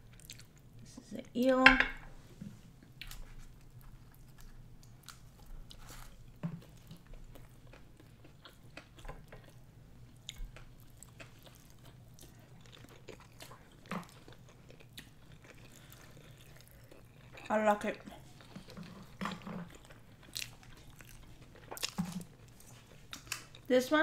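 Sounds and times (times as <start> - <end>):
wet chewing with small clicks: 0.1 - 0.9, 2.8 - 23.7.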